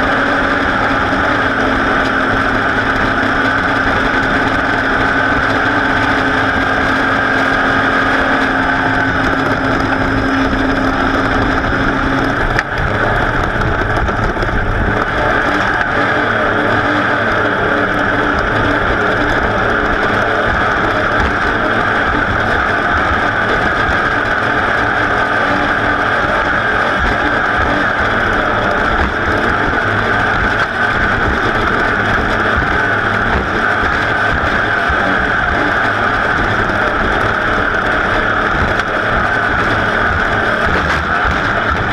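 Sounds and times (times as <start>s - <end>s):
race engine running: 0.0s - 41.9s
wind noise: 0.0s - 41.9s.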